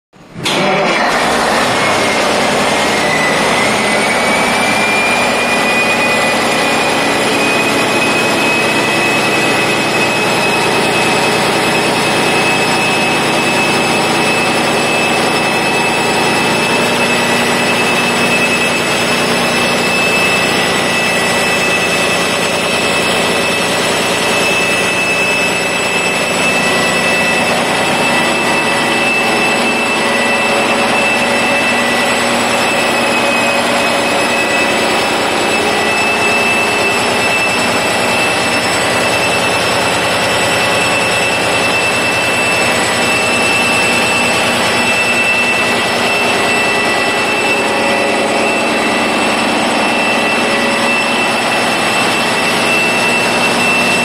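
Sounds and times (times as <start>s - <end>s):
diesel engine running: 0.2s - 54.0s
turbocharger whine: 0.2s - 54.0s.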